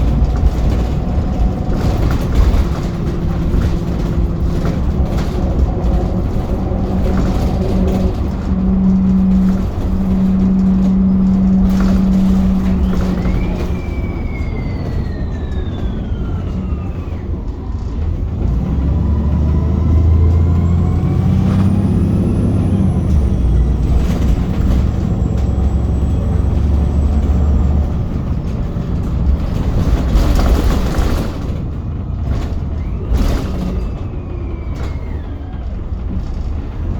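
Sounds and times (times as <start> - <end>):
bus differential whining: 0.0 - 36.9
bus engine and road noise: 0.0 - 36.9.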